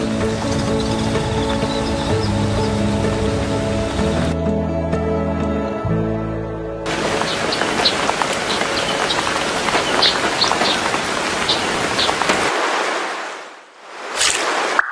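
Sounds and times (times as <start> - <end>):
rain falling: 0.0 - 4.4, 6.9 - 14.9.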